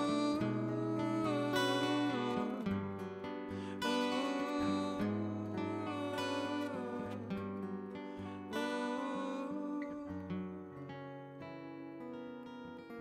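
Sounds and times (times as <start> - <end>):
acoustic guitar picked: 0.0 - 13.0.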